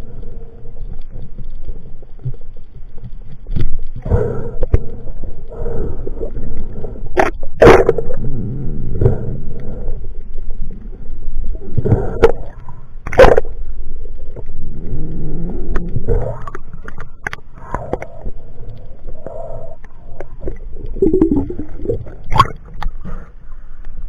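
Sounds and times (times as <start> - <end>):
underwater water rushing and gurgling: 0.0 - 24.0.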